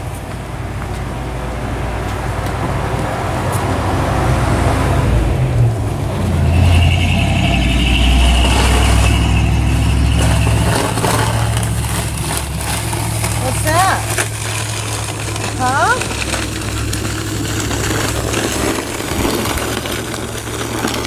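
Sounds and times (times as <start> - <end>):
heavy vehicle engine rumbling: 0.0 - 21.0.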